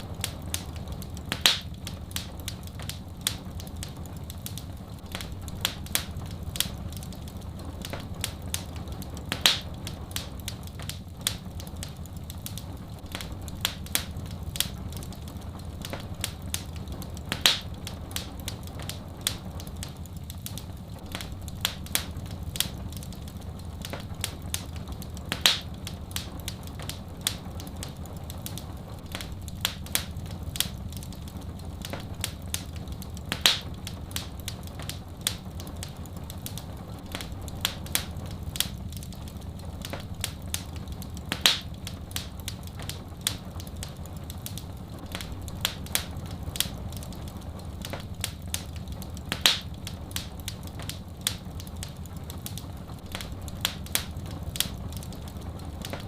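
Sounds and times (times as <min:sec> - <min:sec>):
soft rain: 0:00.0 - 0:56.0
wood fire crackling: 0:00.0 - 0:56.0.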